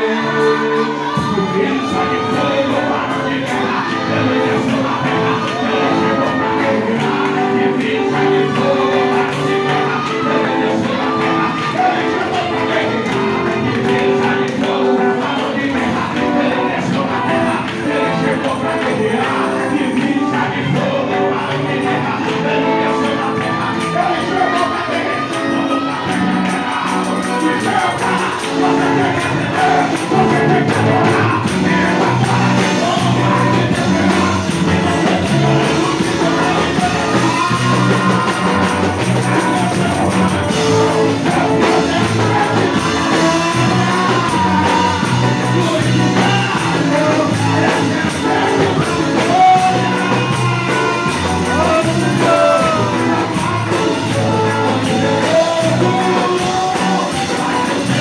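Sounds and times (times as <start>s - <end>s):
band playing: 0.0s - 58.0s
man singing through microphone: 0.0s - 58.0s.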